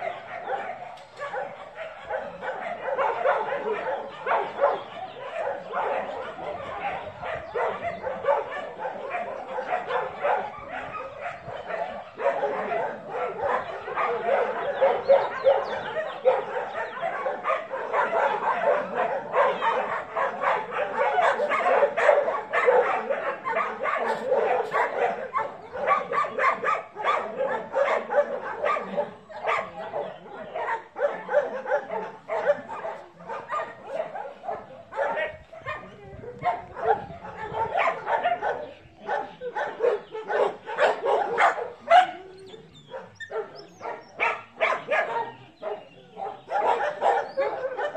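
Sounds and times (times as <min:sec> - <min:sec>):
puppy yapping: 0:00.0 - 0:47.9.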